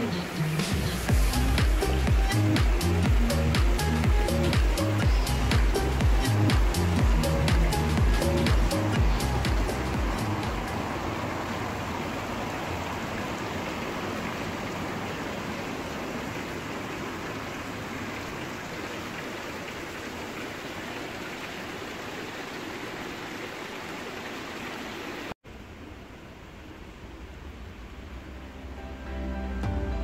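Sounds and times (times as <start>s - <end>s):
fountain water splashing: 0.0s - 28.8s.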